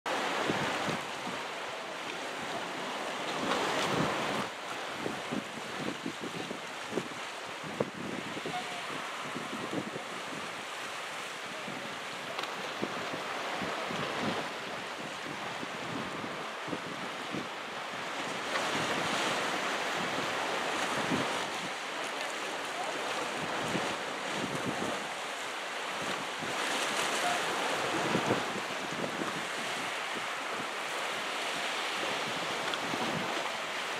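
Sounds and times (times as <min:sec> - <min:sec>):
small sea waves washing onto beach: 0:00.1 - 0:33.9
wind gusting on microphone: 0:00.1 - 0:33.9.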